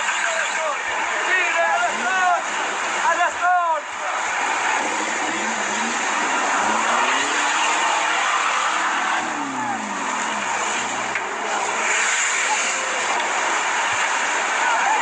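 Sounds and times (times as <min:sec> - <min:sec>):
loud rushing noise: 0:00.0 - 0:15.0
off-road engine revving: 0:00.0 - 0:15.0.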